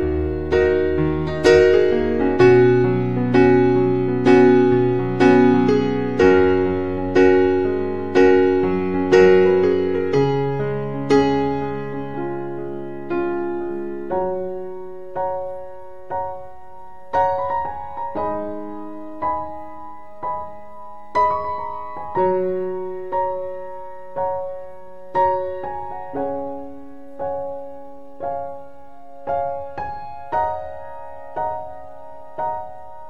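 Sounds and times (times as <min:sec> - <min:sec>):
slow piano piece: 0:00.0 - 0:33.0.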